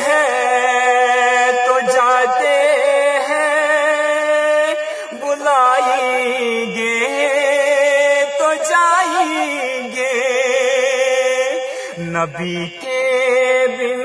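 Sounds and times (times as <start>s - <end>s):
man singing devotional song: 0.0s - 14.0s.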